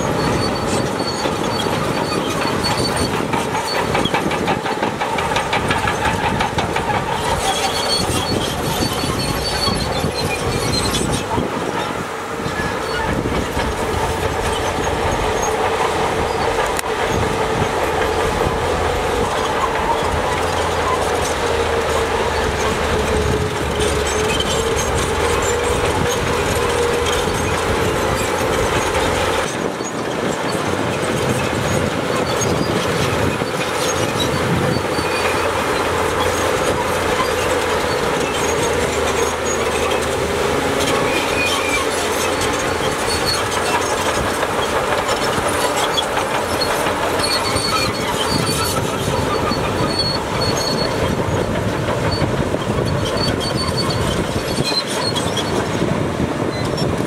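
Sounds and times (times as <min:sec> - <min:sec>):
squealing whine: 0:00.0 - 0:55.9
diesel engine under load: 0:00.0 - 0:57.0
steel tracks clattering: 0:00.0 - 0:57.0.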